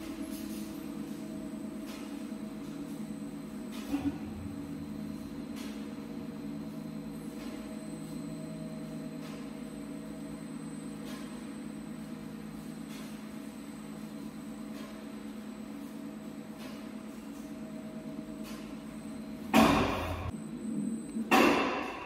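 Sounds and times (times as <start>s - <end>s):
electric drive humming: 0.0s - 22.0s.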